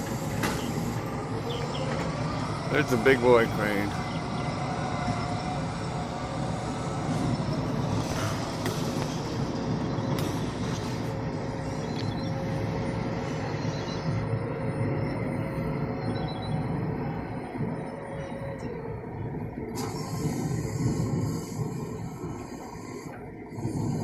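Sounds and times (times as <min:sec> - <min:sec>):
crane diesel engine and hydraulics: 0:00.0 - 0:24.0.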